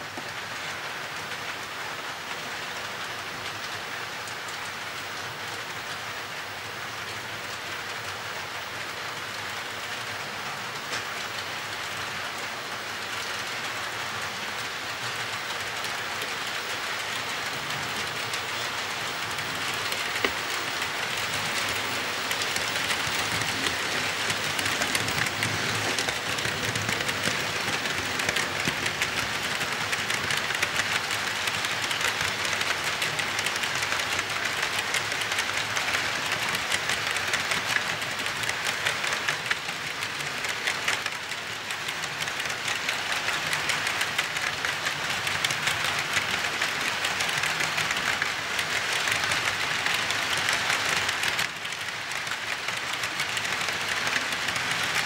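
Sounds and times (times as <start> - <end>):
model train wheels rattling on track: 0.0 - 55.0.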